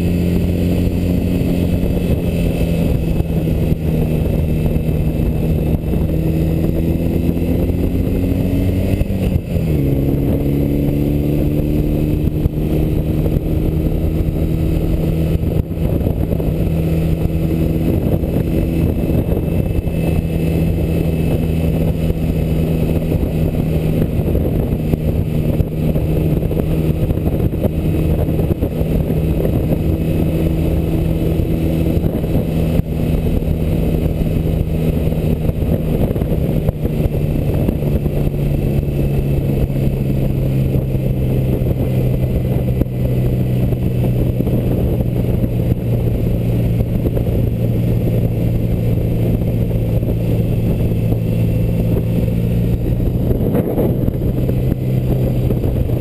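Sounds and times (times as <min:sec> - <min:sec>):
motorcycle engine cruising: 0:00.0 - 0:56.0
wind rush: 0:00.0 - 0:56.0.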